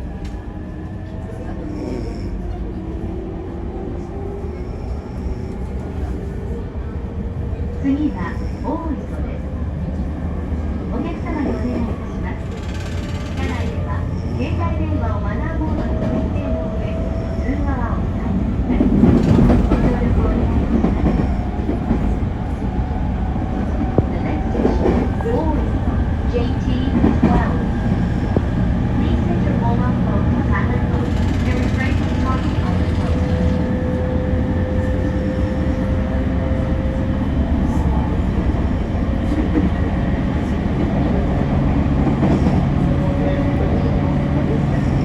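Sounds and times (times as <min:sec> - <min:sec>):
train carriage low rumble: 0:00.0 - 0:45.0.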